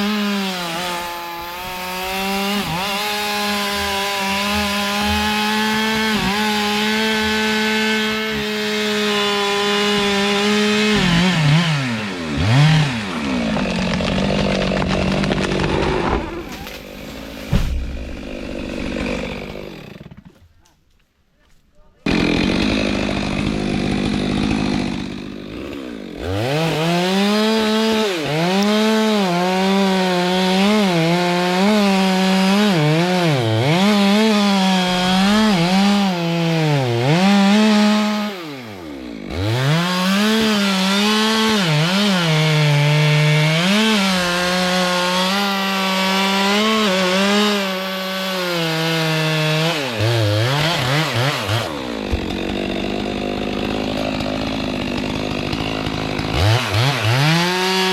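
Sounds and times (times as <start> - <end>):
chainsaw cutting wood: 0.0 - 20.5, 22.0 - 57.9.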